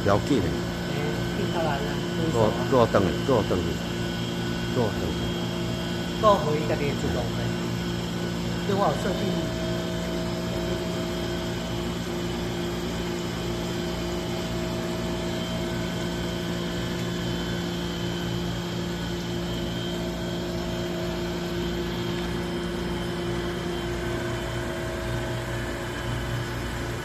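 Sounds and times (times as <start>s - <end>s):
grinder motor hum: 0.0s - 27.0s.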